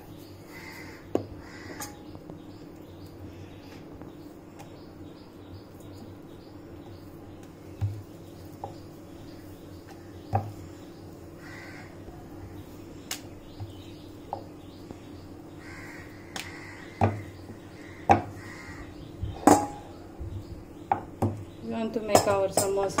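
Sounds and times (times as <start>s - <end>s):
bird calling: 0.0s - 22.4s.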